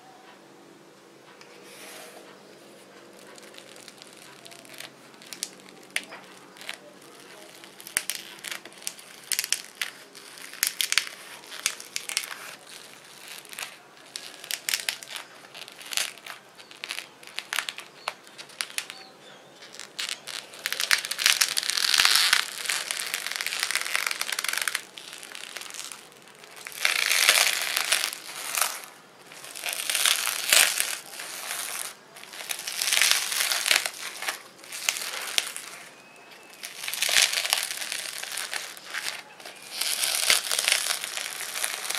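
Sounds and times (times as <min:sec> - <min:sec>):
foam beads crackling and popping: 0:01.5 - 0:41.9.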